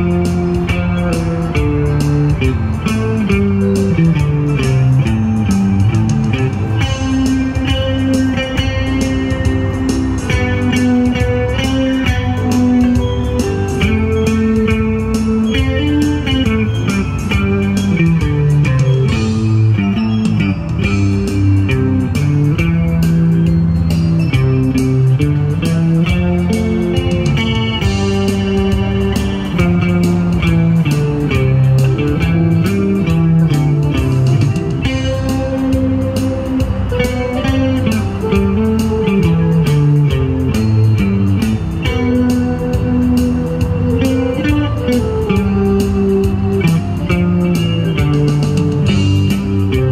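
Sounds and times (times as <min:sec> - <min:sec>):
bass line: 0:00.0 - 0:49.9
plucked guitar notes: 0:00.0 - 0:49.9.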